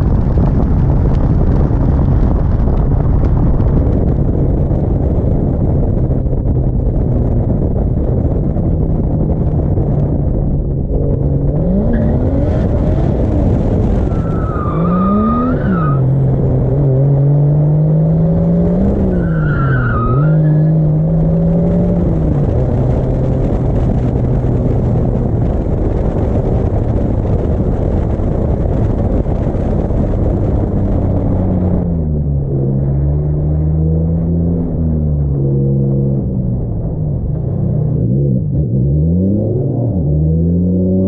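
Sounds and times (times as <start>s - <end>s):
car engine revving: 0.3s - 41.0s.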